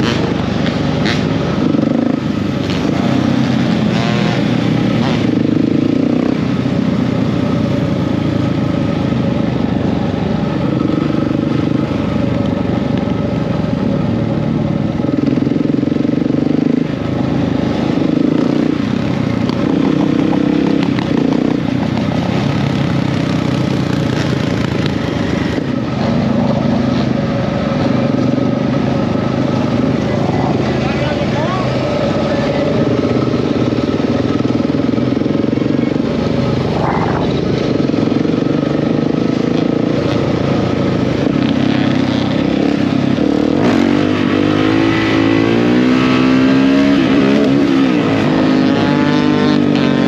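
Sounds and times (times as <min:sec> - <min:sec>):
dirt bike engines running: 0:00.0 - 0:50.0.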